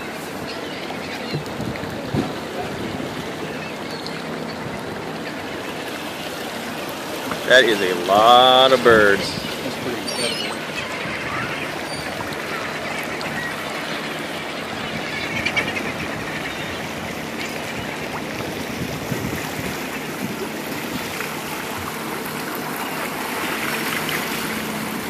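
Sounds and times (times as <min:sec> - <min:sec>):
rush of water: 0:00.0 - 0:25.0
seabirds calling: 0:00.0 - 0:25.0
wind: 0:00.0 - 0:25.0.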